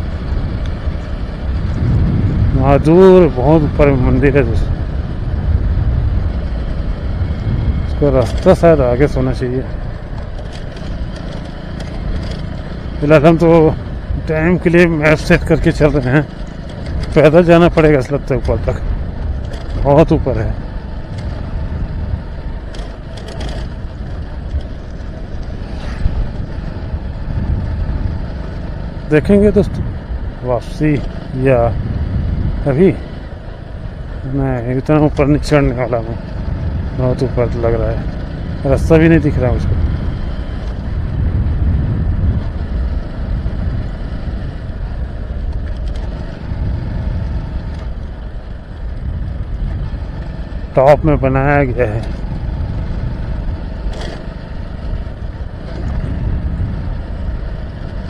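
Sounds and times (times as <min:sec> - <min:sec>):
motorcycle engine and road rumble: 0:00.0 - 0:58.0.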